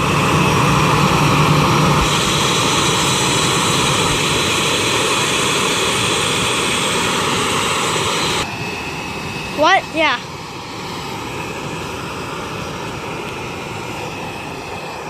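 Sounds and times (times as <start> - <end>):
high jet whine: 0.0 - 15.0
jet engines roaring: 0.0 - 15.0.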